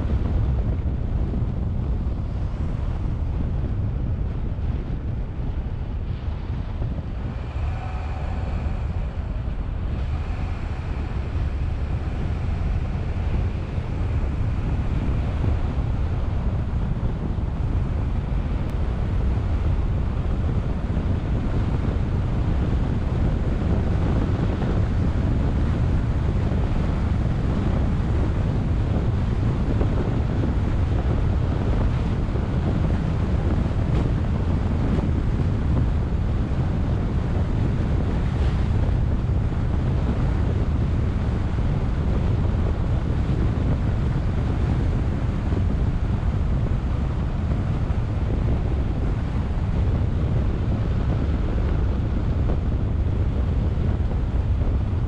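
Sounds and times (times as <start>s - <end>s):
car driving rumble: 0.0s - 55.0s
wind buffeting microphone: 0.0s - 55.0s.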